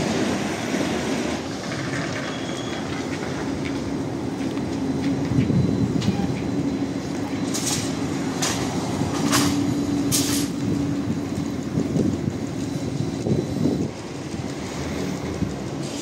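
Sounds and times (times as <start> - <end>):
trolleybus electric drone: 0.0 - 16.0.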